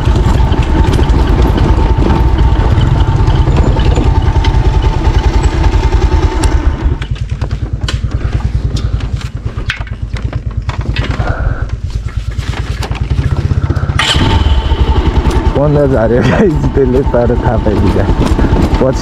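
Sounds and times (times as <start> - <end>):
knocks and rattles: 0.0 - 14.0, 14.8 - 19.0
motorcycle engine running: 0.0 - 19.0.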